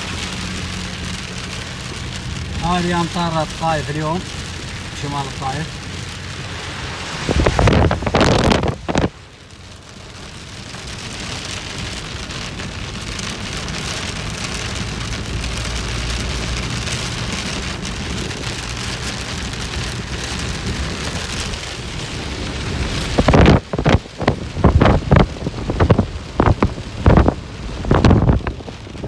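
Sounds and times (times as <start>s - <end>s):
heavy rain on car roof: 0.0s - 29.0s
road rumble: 0.0s - 29.0s.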